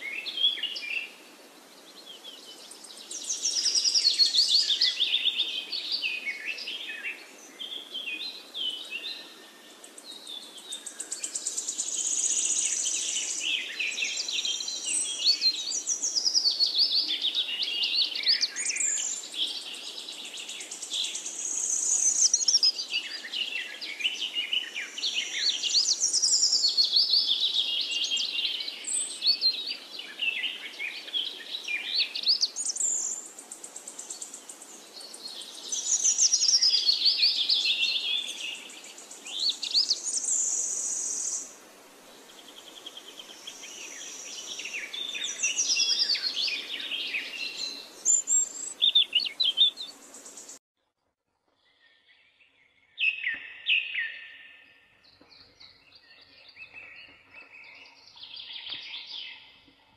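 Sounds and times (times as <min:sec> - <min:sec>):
birds chirping and singing: 0:02.0 - 0:41.5, 0:42.2 - 0:50.6, 0:51.6 - 0:59.9.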